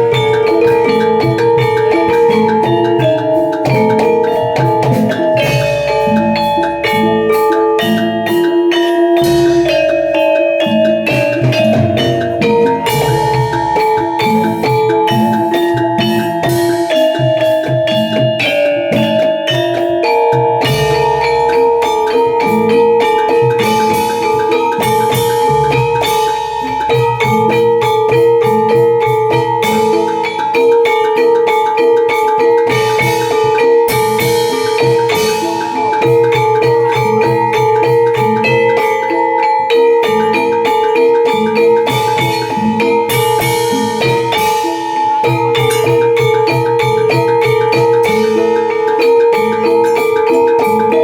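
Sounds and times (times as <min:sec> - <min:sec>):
drum strokes: 0:00.0 - 0:51.0
ringing metallophone notes: 0:00.0 - 0:51.0.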